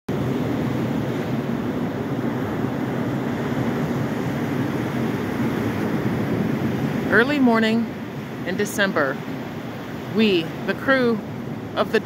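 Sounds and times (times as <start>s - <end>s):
surf washing up beach: 0.1s - 12.0s.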